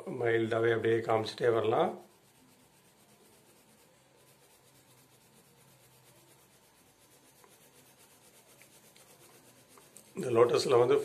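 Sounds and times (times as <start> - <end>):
pencil scratching on paper: 0.8 - 11.0.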